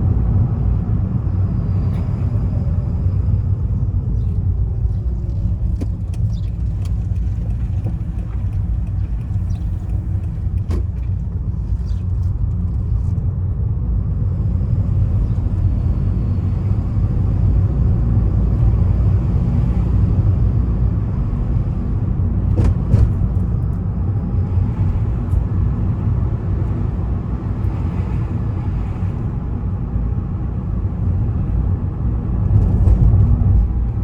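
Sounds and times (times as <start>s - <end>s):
road and tyre rumble: 0.0s - 34.0s.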